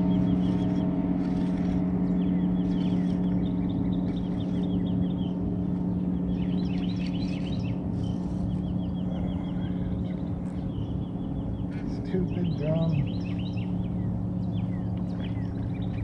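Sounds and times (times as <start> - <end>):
bird chirping trills: 0.0 - 16.0
trolling motor humming: 0.0 - 16.0.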